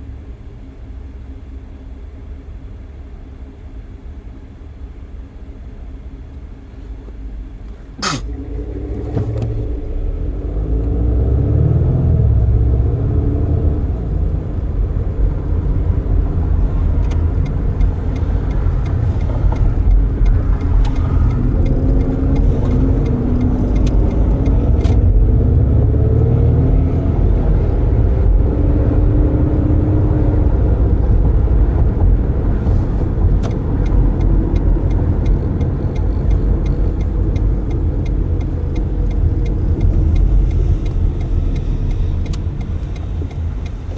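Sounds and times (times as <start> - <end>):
car engine hum: 0.0 - 43.9.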